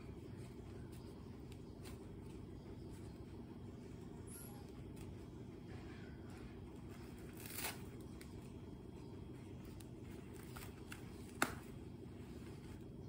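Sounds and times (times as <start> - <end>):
diaper handling sounds: 0.0 - 4.1, 6.2 - 13.0
steady low hum: 0.0 - 13.0.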